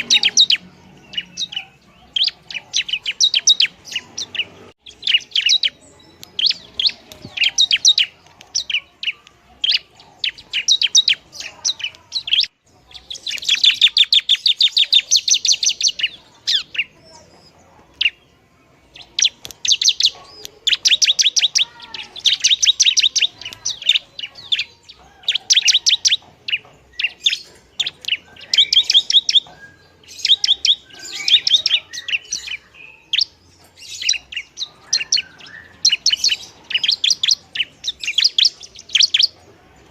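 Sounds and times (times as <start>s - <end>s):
bird singing sharp chattering notes: 0.0s - 39.9s.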